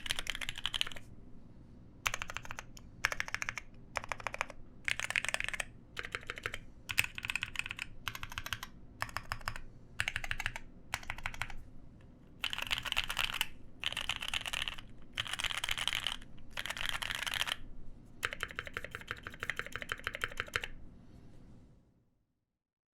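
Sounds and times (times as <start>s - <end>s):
mechanical keyboard typing: 0.0s - 1.1s, 2.0s - 11.6s, 12.4s - 17.6s, 18.2s - 20.7s.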